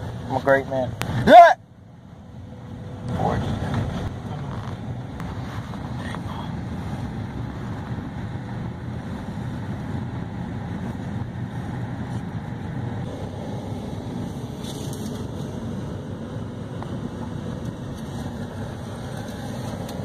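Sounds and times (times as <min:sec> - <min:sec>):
road and engine drone in car cabin: 0:00.0 - 0:20.0.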